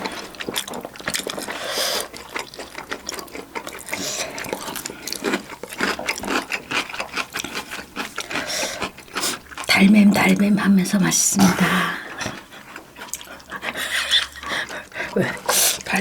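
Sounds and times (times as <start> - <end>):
person chewing food: 0.0 - 10.4, 11.6 - 16.0.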